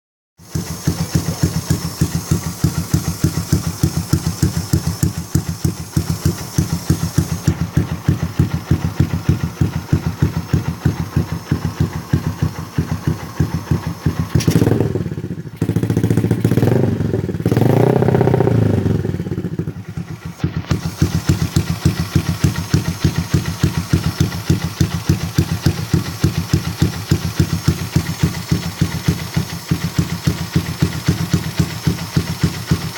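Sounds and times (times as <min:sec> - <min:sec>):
motorcycle engine idling and revving: 0:00.4 - 0:32.9.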